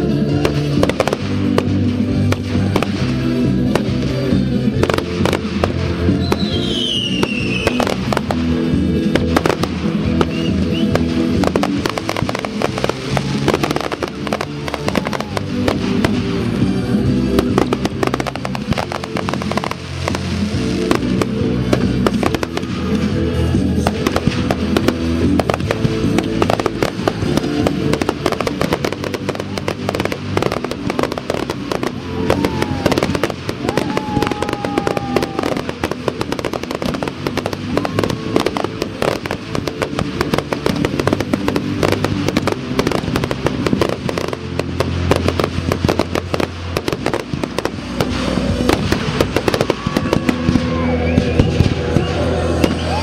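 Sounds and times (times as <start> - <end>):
fireworks bangs and crackles: 0.0 - 53.0
loud music: 0.0 - 53.0.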